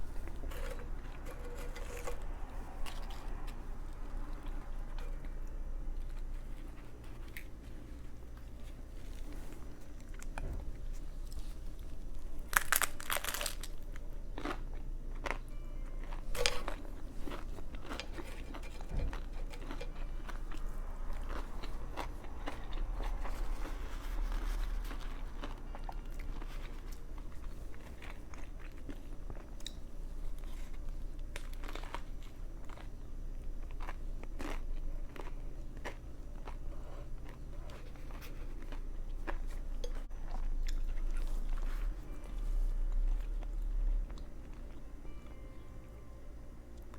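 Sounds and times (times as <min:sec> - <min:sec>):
biting and chewing sandwich: 0:00.0 - 0:44.9.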